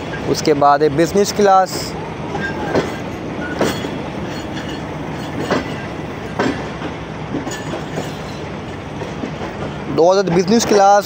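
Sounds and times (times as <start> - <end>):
wheels clacking over rail joints: 0.0 - 11.0.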